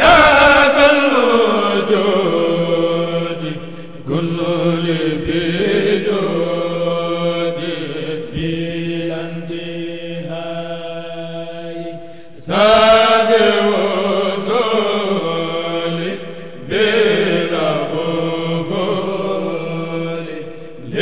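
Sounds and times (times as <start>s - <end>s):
men chanting through microphones: 0.0s - 21.0s.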